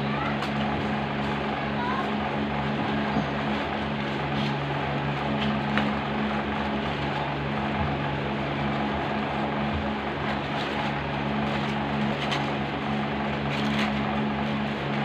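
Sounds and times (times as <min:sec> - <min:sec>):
constant rushing noise: 0:00.0 - 0:15.0
machine hum: 0:00.0 - 0:15.0.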